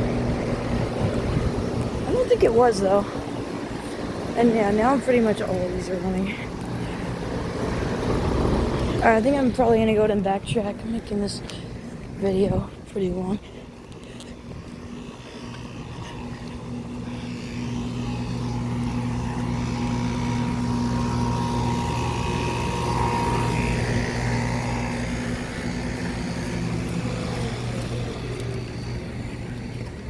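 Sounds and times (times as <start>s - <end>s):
compressor hum: 0.0s - 30.0s
condenser fans whirring: 0.0s - 30.0s.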